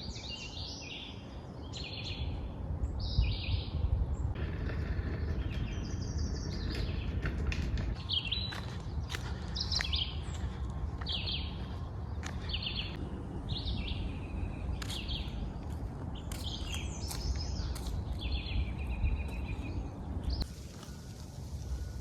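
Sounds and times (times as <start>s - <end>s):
songbirds chirping: 0.0s - 22.0s
steady low rumble: 1.0s - 22.0s.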